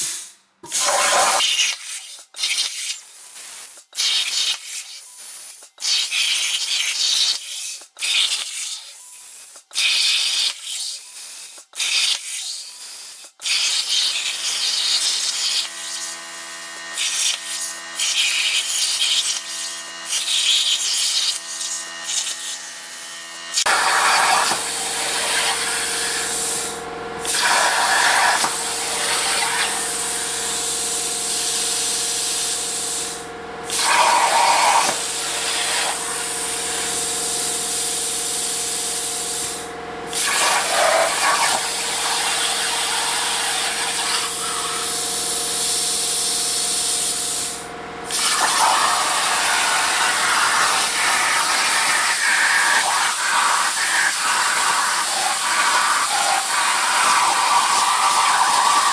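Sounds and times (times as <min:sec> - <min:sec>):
plasma torch cutting metal: 0:00.0 - 0:02.8, 0:09.8 - 0:58.9.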